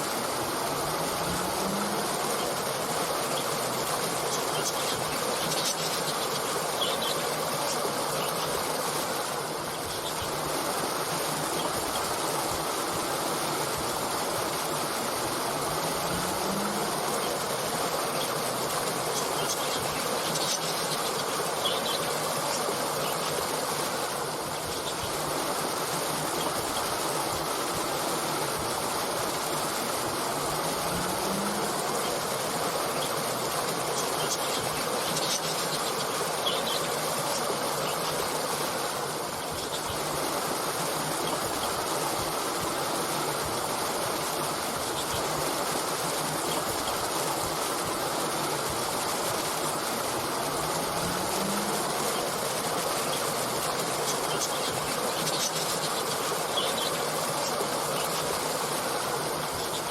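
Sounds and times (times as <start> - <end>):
brook water flowing: 0.0 - 59.9.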